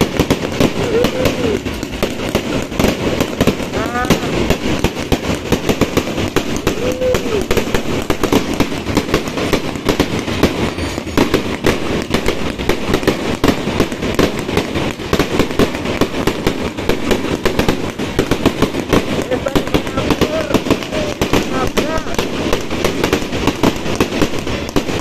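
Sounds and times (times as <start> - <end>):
fireworks and firecrackers banging: 0.0 - 25.0.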